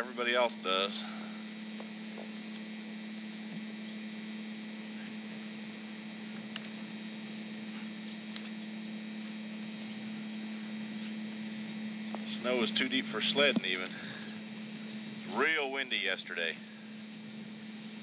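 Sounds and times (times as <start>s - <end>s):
camcorder low hum: 0.0s - 18.0s.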